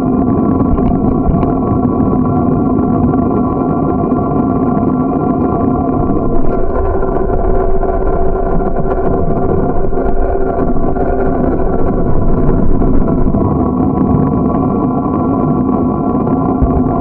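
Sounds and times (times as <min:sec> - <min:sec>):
steady hum: 0:00.0 - 0:17.0
wind on microphone: 0:00.0 - 0:17.0.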